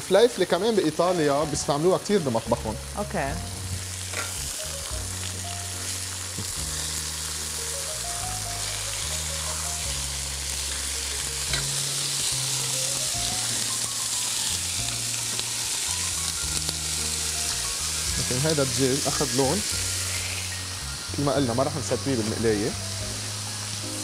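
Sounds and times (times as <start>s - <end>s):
chicken sizzling in frying pan: 0.0s - 24.0s.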